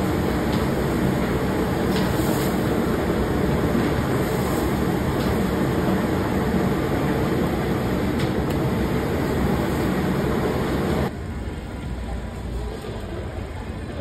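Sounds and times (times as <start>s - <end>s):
burners and ventilation roar: 0.0s - 14.0s.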